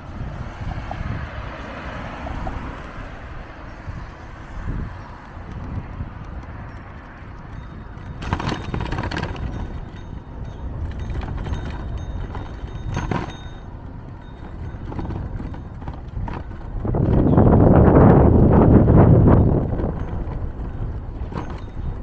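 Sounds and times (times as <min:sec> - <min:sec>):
bicycle rumble with rattles: 0:00.0 - 0:22.0
wind buffeting microphone: 0:00.0 - 0:22.0.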